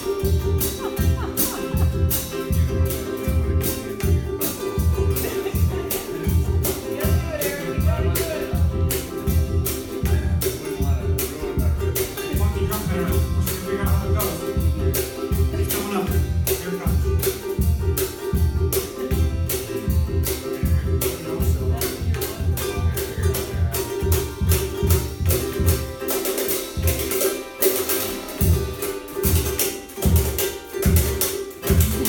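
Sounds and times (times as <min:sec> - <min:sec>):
steady low beat: 0:00.0 - 0:26.1, 0:30.9 - 0:32.0
ukulele strummed fast: 0:00.0 - 0:32.0.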